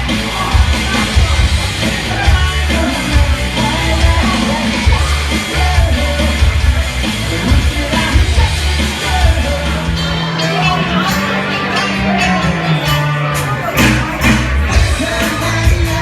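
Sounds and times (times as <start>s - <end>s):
rock band playing: 0.0s - 16.0s
shouted sung vocals: 0.0s - 16.0s.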